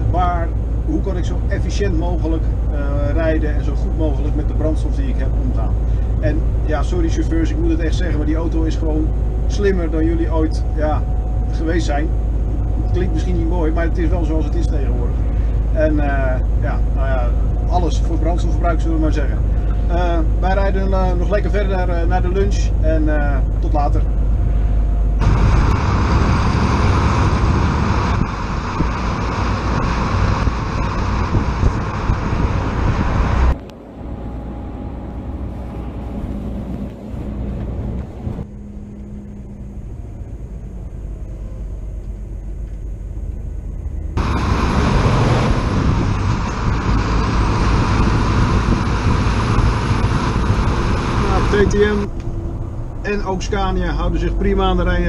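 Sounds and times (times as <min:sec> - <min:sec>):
truck driving at road speed: 0:00.0 - 0:55.0.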